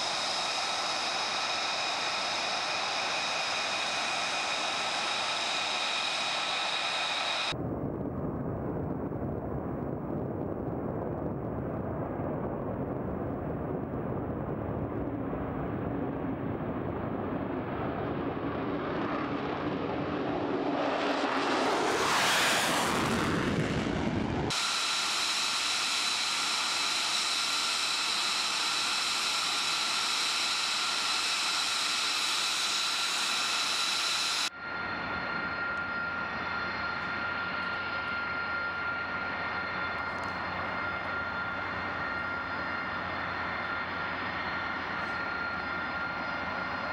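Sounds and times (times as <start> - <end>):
high-pitched turbine whine: 0.0 - 7.6, 11.6 - 46.9
jet engine roar: 0.0 - 46.9
low hum: 0.0 - 46.9.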